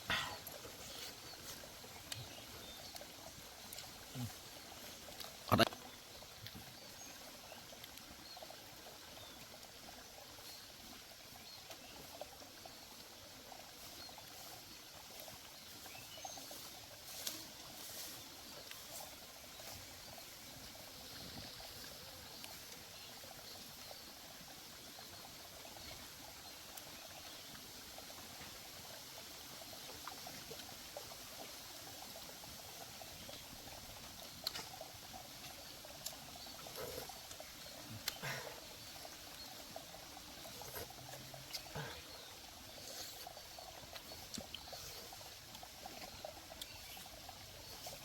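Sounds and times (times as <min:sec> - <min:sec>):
stream trickling: 0:00.0 - 0:48.0.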